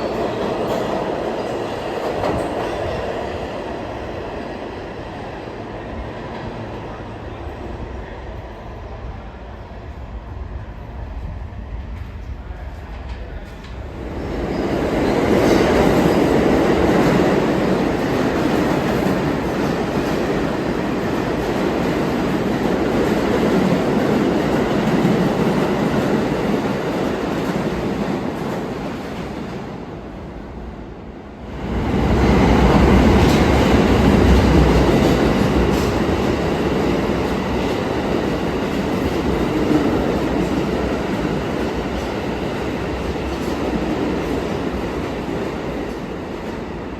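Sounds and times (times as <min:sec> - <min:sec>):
subway train wheels clattering: 0:00.0 - 0:46.9.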